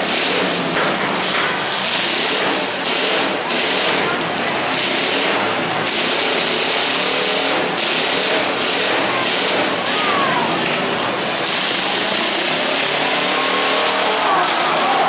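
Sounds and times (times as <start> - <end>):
car engines revving: 0.0 - 15.0
crowd voices: 0.0 - 15.0.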